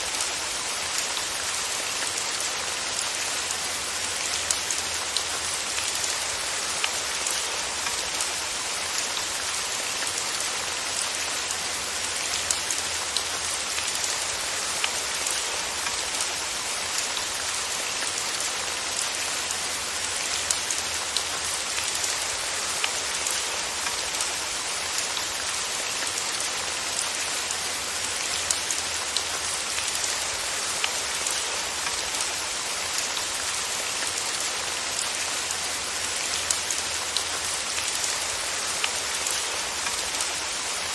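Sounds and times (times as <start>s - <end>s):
rain hissing on a surface: 0.0s - 40.9s.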